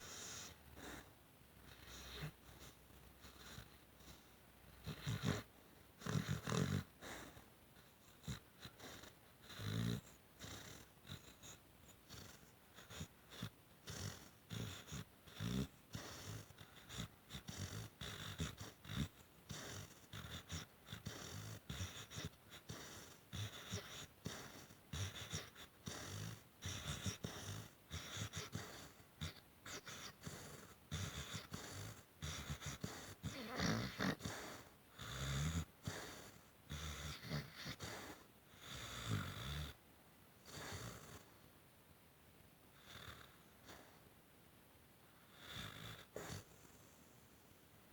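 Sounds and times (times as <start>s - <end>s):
dog snoring: 0.0s - 39.8s, 40.4s - 41.4s, 42.7s - 44.1s, 45.2s - 47.2s.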